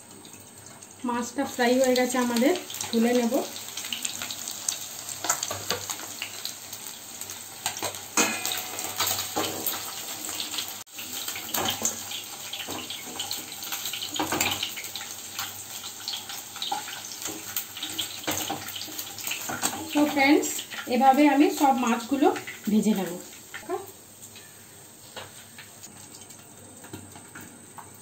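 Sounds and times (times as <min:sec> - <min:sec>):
oil sizzling and crackling: 0:00.0 - 0:28.0.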